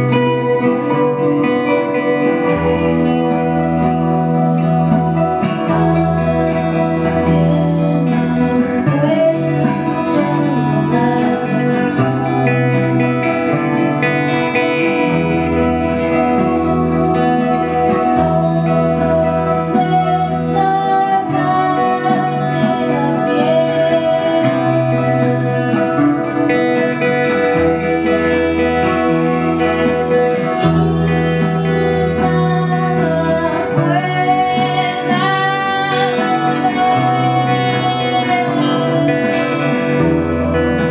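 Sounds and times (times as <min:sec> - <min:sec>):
live band music: 0:00.0 - 0:40.9
woman singing: 0:00.0 - 0:40.9.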